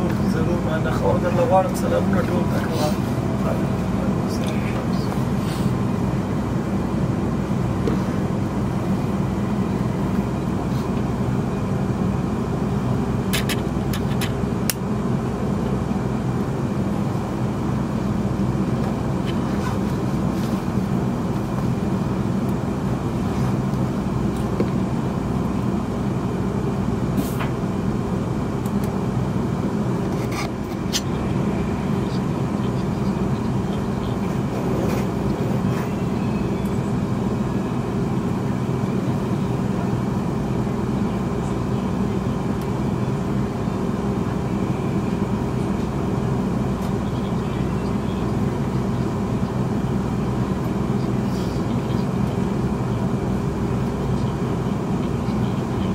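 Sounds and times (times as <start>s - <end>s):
train carriage rumble: 0.0s - 55.9s.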